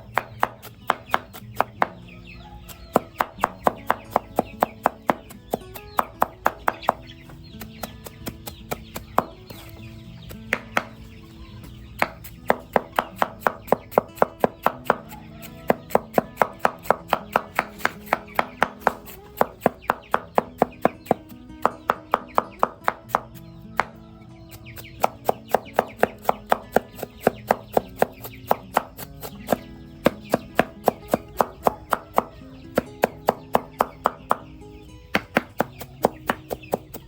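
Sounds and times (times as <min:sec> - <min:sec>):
knife chopping on cutting board: 0:00.0 - 0:02.0, 0:02.7 - 0:07.0, 0:07.6 - 0:11.0, 0:12.0 - 0:23.4, 0:24.8 - 0:34.5, 0:35.2 - 0:37.0
background music: 0:00.0 - 0:37.0.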